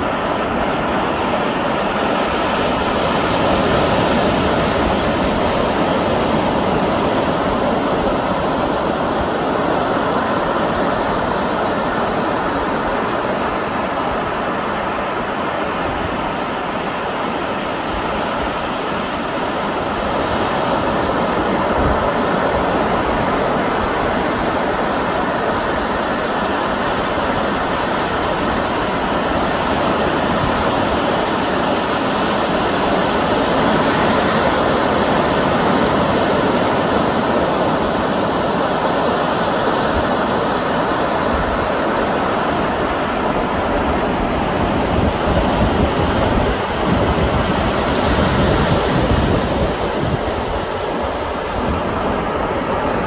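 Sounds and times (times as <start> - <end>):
sea surf rushing: 0.0 - 53.0
wind: 0.0 - 53.0
wind rumble on microphone: 0.0 - 53.0.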